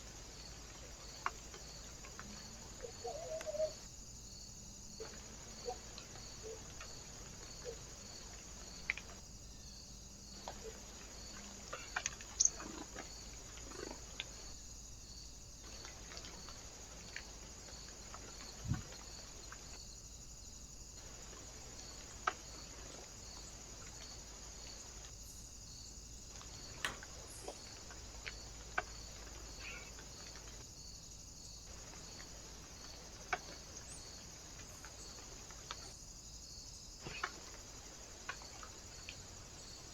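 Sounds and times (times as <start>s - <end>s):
faint high-pitched hiss: 0.0s - 39.9s.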